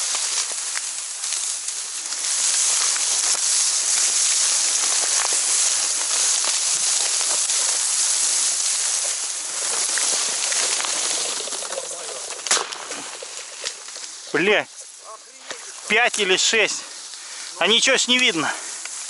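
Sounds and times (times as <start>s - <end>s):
stems snapping: 0.0s - 16.3s
reeds rustling and crackling: 0.0s - 19.0s.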